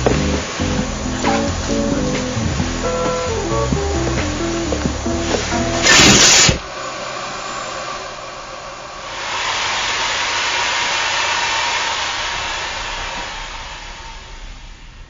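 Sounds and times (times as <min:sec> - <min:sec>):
vacuum cleaner motor humming: 0:00.0 - 0:15.0.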